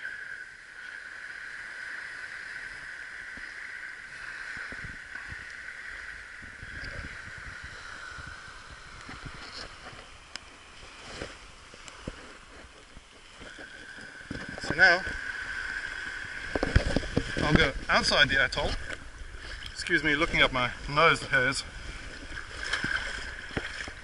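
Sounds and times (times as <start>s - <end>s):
water washing on shore: 0.0s - 24.0s
wind on microphone: 2.6s - 24.0s.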